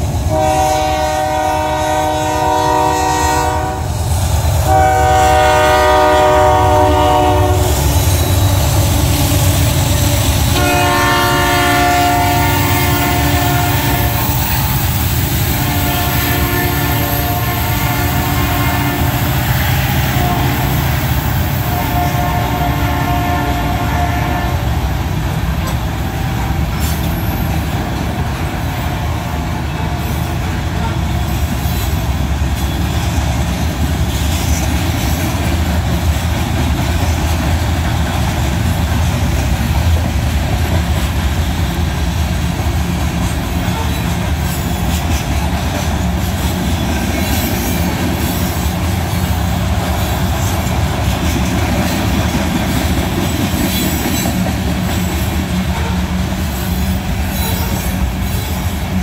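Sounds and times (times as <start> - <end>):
freight train wheels rumbling: 0.0 - 59.0
wheels clacking on track: 7.0 - 59.0.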